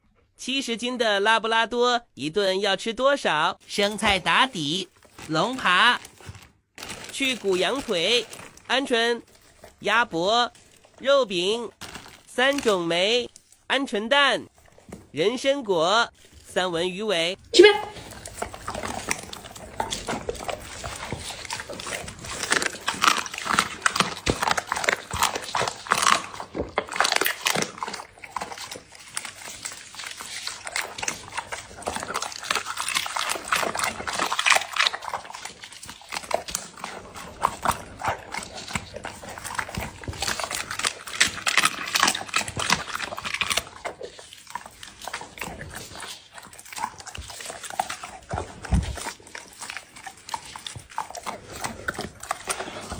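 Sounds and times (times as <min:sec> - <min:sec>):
dog crunching bones: 0:03.6 - 0:52.9.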